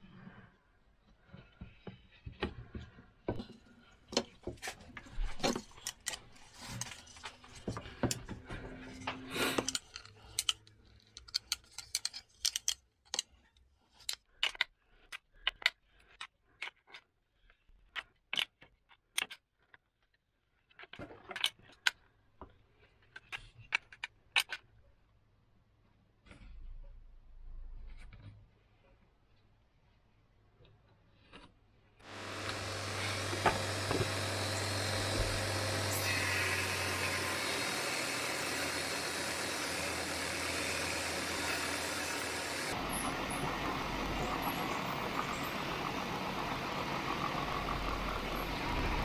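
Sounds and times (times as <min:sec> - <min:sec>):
wooden parts and hardware clicking: 0:01.3 - 0:17.1, 0:17.8 - 0:20.1, 0:20.7 - 0:24.8, 0:32.1 - 0:49.0.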